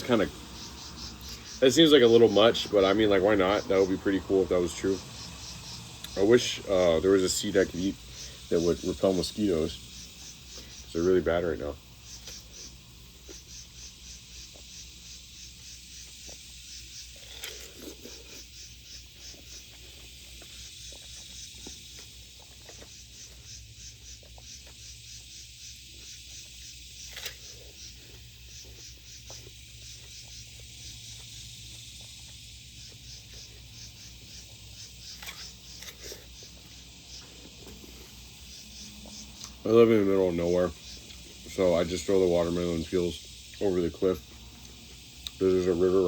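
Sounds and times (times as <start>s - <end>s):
insects chirping: 0.0s - 46.0s.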